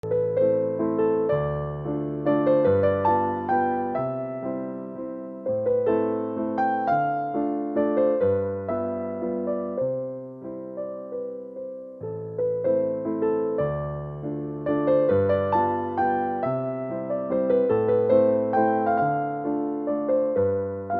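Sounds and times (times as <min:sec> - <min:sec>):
gentle piano melody: 0:00.0 - 0:20.9.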